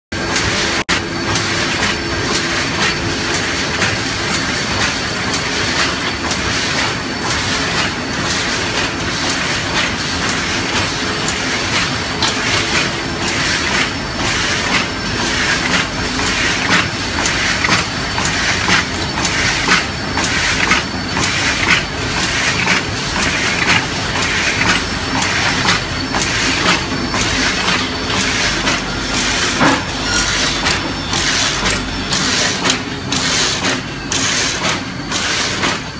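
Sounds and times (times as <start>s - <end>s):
press machine clacking: 0.3s - 35.9s.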